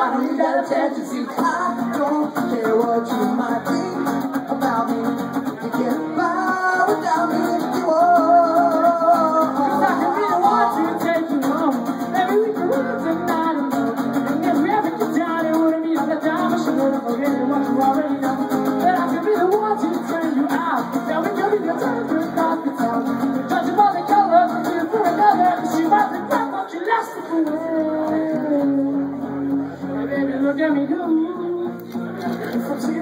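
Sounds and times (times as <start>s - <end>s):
acoustic guitar strumming: 0.0s - 33.0s
man singing: 0.0s - 33.0s.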